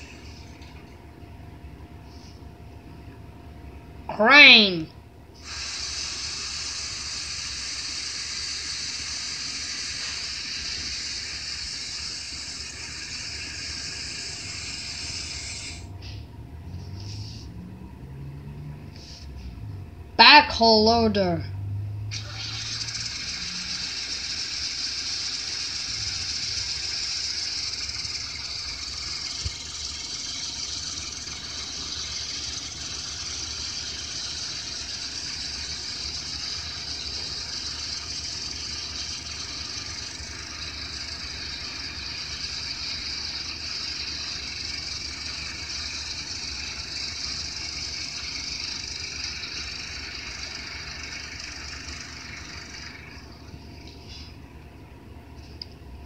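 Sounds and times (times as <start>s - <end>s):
engine through small speaker: 4.1s - 54.4s.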